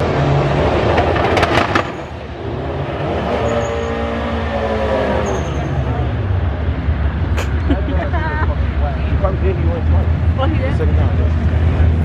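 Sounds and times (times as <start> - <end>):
deep rumble of engines: 0.0 - 12.0.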